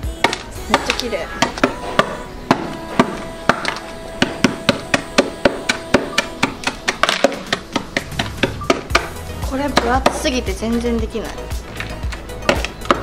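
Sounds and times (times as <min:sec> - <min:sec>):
background music: 0:00.0 - 0:13.0
ice block being struck: 0:00.2 - 0:10.3, 0:12.4 - 0:13.0.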